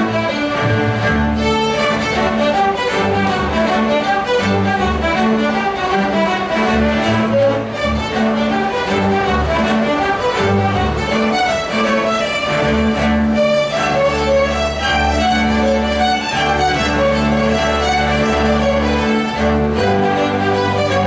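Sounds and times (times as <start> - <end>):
string orchestra playing a hornpipe: 0.0 - 21.0.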